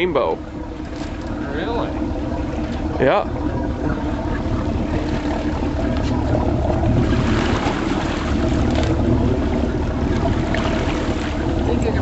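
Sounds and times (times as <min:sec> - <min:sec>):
boat motor droning: 0:00.0 - 0:12.0
water noise: 0:00.0 - 0:12.0.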